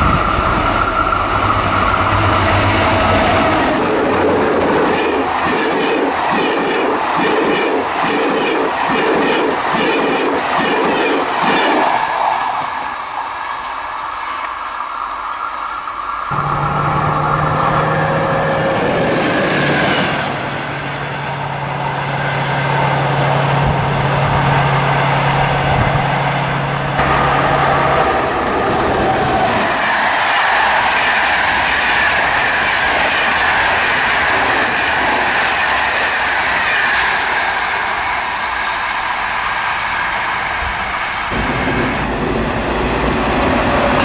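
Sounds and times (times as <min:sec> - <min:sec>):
passenger train rolling on rails: 0:00.0 - 0:44.0.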